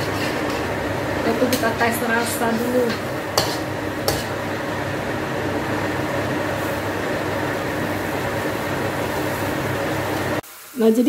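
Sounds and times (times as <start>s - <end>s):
sauce simmering in a wok: 0.0s - 10.8s
gas stove hum and hiss: 0.0s - 11.0s.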